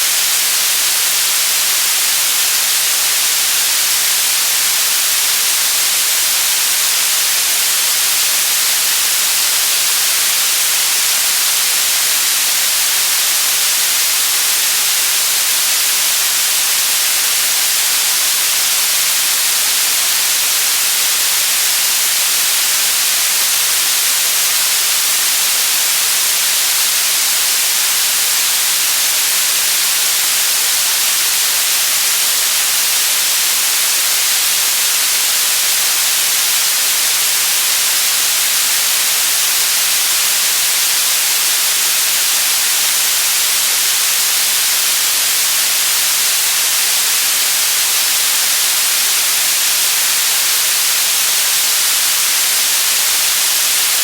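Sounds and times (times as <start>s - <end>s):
loud white noise: 0.0s - 54.0s.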